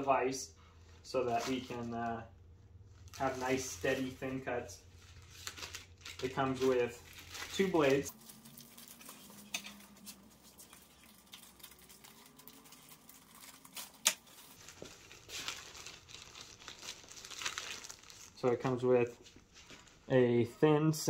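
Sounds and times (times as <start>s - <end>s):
plastic and paper packaging rustling: 0.8s - 20.2s.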